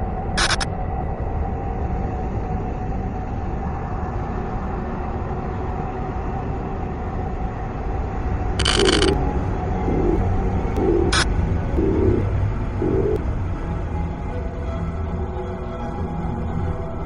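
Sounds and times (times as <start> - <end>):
rumbling noise drone: 0.0 - 14.1.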